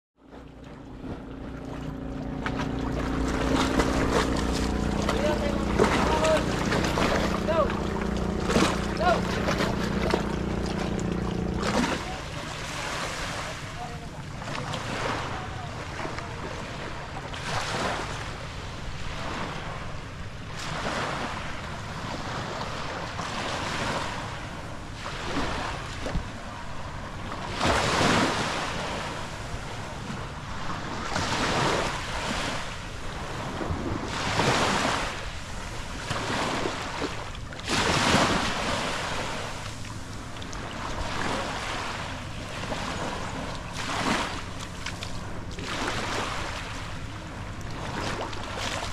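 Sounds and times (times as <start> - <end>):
small waves on sandy shore: 0.2 - 48.9.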